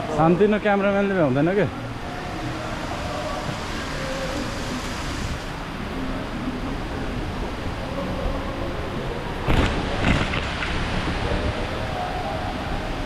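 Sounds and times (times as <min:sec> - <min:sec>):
faint indistinct voices: 0:00.0 - 0:13.0
outdoor background noise: 0:00.0 - 0:13.0.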